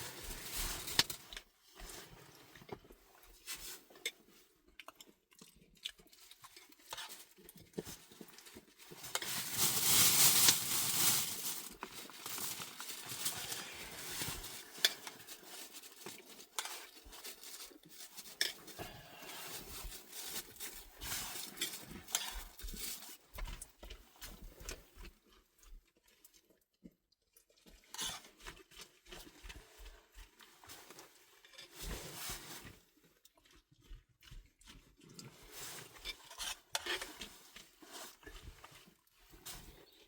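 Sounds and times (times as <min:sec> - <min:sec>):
utensil clinking and scraping in pot: 0:00.0 - 0:04.4, 0:06.4 - 0:25.1, 0:27.6 - 0:40.0.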